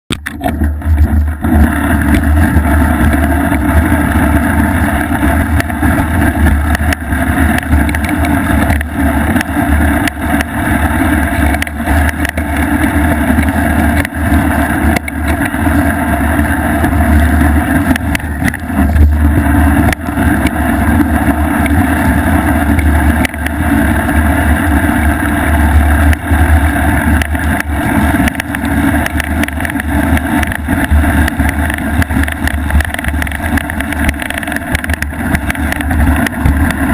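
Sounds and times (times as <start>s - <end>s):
bicycle tyre rumbling over snow: 0.1s - 36.9s.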